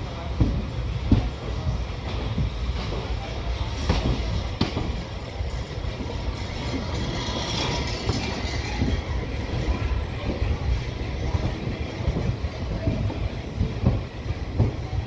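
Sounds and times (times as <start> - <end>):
train coach rumbling: 0.0 - 15.0
wheel knocks and clatter: 0.3 - 15.0.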